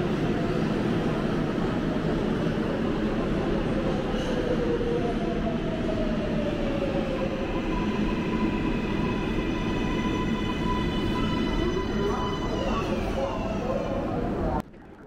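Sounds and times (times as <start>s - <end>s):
subway train wheels rumbling: 0.0s - 14.6s.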